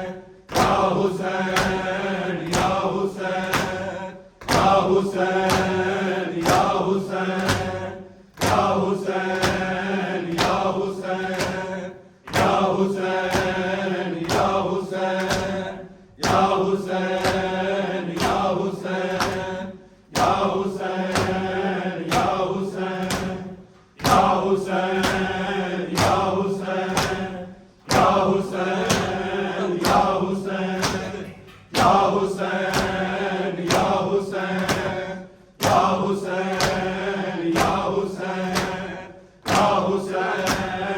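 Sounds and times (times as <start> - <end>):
crowd chanting: 0.0 - 40.9.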